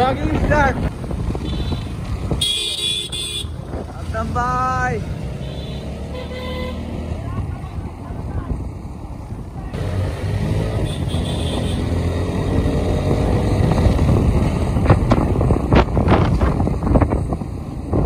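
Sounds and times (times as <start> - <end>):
motorcycle engines riding off: 0.0 - 18.0.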